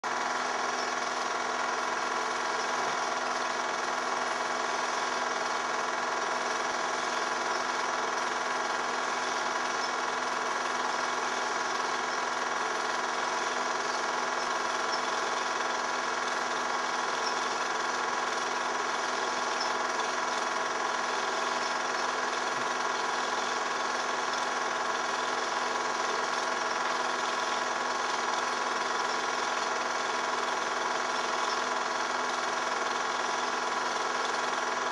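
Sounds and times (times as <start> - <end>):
film projector whirring: 0.0 - 34.9.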